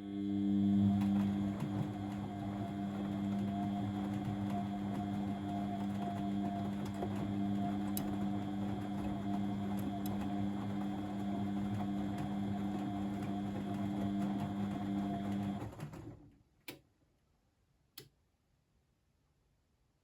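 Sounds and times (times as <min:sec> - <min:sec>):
washing machine humming: 0:00.0 - 0:16.3.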